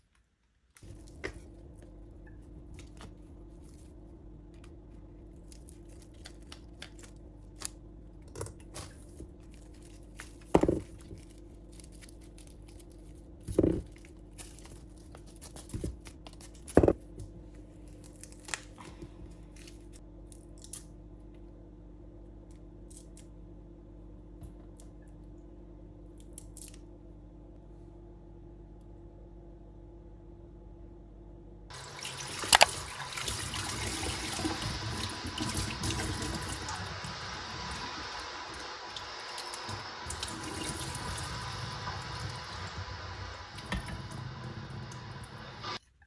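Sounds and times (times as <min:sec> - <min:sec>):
steady low hum: 0:00.8 - 0:46.0.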